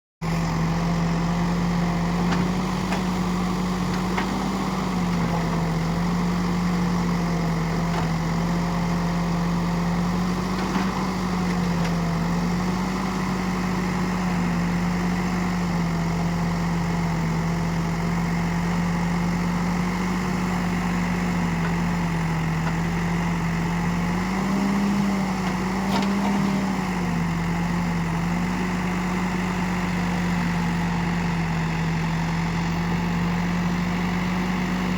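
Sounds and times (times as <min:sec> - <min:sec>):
heavy diesel engine running: 0:00.2 - 0:34.9.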